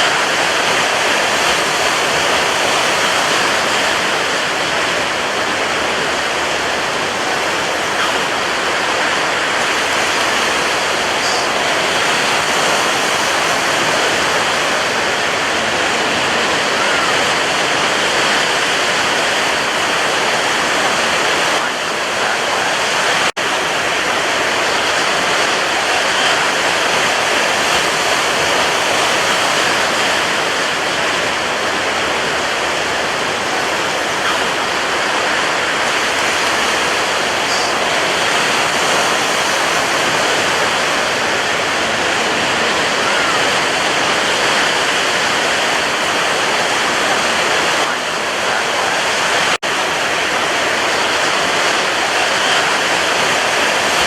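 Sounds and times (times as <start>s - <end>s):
sea surf washing: 0.0s - 54.0s.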